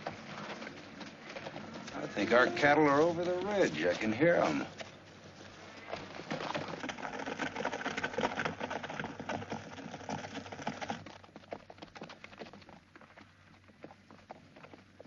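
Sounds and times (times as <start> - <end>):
horses galloping: 0.0 - 15.0.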